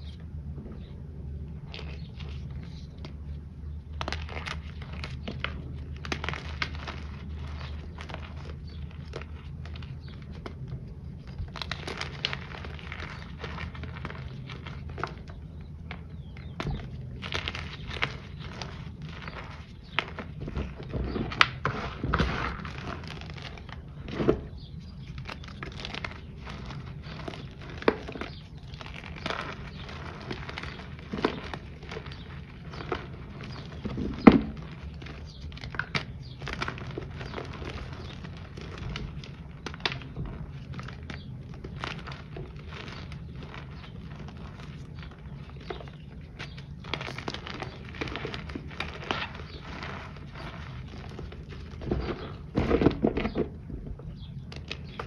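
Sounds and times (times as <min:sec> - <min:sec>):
hands crushing powder chunks: 0:01.5 - 0:55.0.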